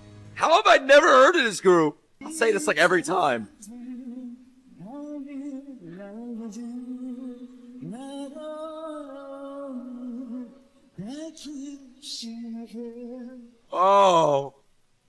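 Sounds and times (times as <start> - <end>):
man singing long notes: 0.4 - 14.5.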